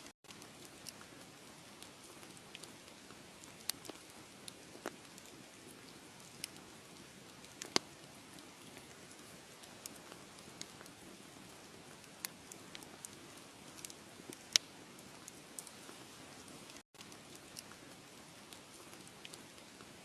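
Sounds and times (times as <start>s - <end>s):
wood fire crackling: 0.2s - 20.0s.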